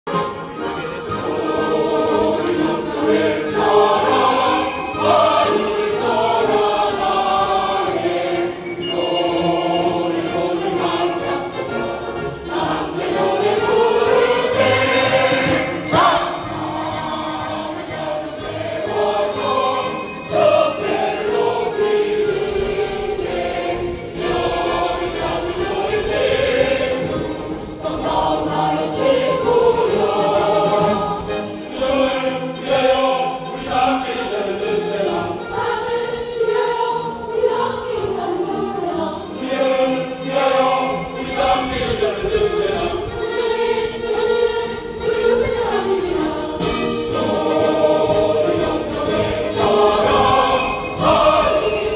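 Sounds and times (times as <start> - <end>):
mixed choir singing: 0.1 - 51.9.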